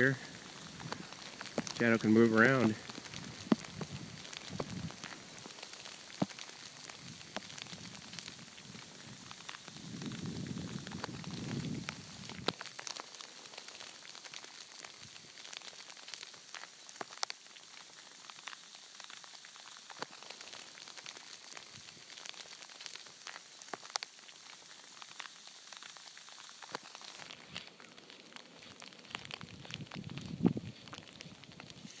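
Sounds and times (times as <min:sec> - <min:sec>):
sleet hissing: 0:00.0 - 0:29.4, 0:30.3 - 0:32.0
ice pellets ticking: 0:00.0 - 0:32.0.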